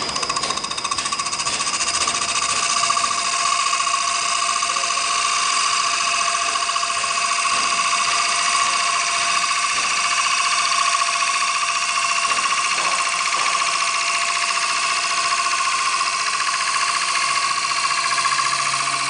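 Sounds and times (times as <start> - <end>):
wood lathe whining: 0.0 - 19.0.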